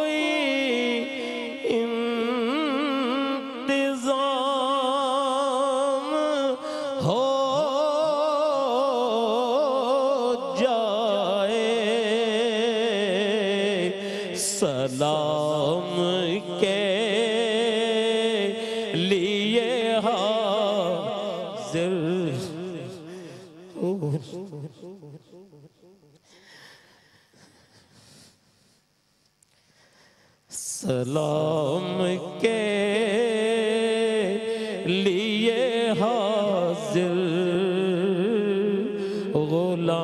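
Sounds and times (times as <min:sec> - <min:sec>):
man singing into microphone: 0:00.0 - 0:25.4, 0:30.5 - 0:40.0.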